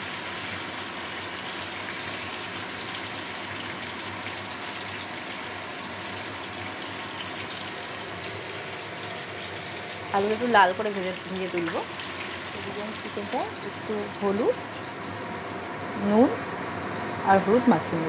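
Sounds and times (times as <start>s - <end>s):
potatoes frying in hot oil: 0.0s - 18.0s.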